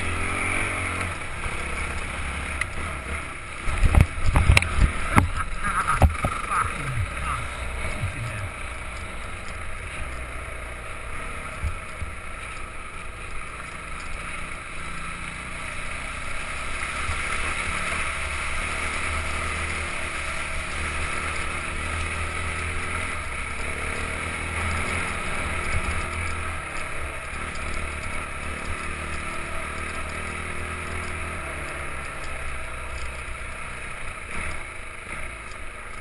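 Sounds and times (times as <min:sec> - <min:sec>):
constant rushing noise: 0:00.0 - 0:36.0
dirt bike engine running: 0:00.0 - 0:36.0.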